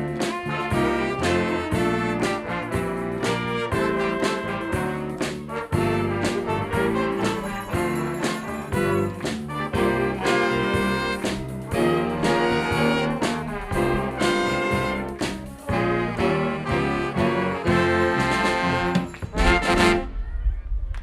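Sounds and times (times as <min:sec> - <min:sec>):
jazz big band playing: 0:00.0 - 0:20.0.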